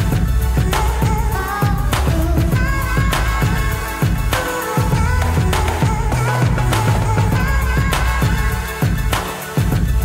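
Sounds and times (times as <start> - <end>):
pop background music: 0.0 - 10.0.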